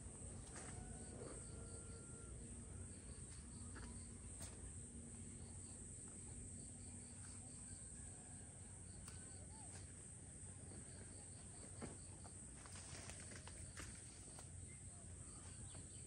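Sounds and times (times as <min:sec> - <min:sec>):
cricket chirping: 0:00.1 - 0:16.0.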